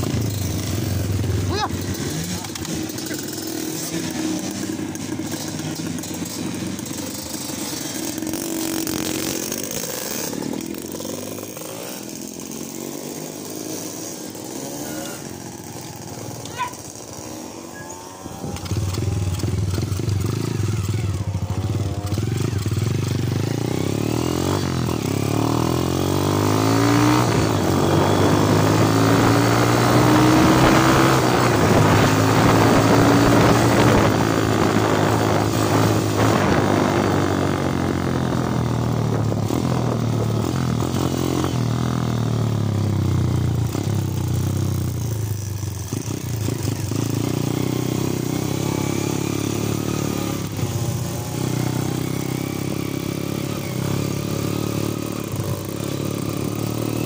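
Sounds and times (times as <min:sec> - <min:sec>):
motorcycle engine revving: 0:00.0 - 0:57.0
motorcycle engines idling: 0:00.0 - 0:57.0.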